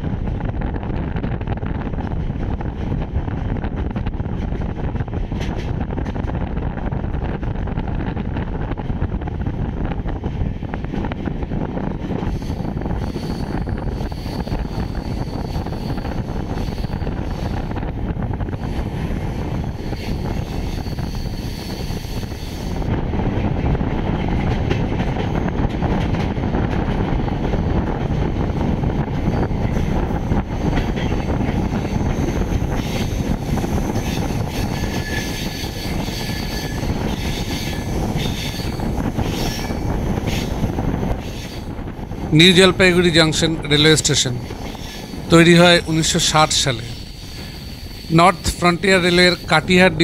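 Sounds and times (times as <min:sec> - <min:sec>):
train running rumble: 0:00.0 - 0:50.0.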